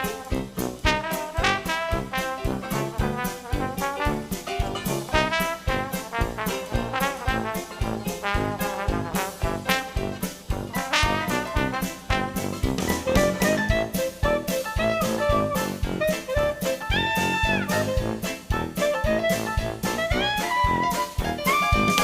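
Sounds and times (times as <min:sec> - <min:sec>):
upbeat brass jazz music: 0:00.0 - 0:22.0.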